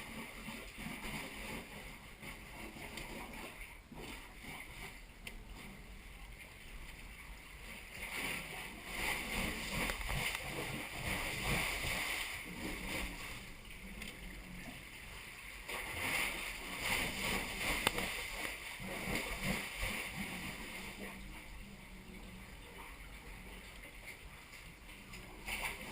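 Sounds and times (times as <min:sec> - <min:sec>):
water splashing around kayak: 0:00.0 - 0:25.9.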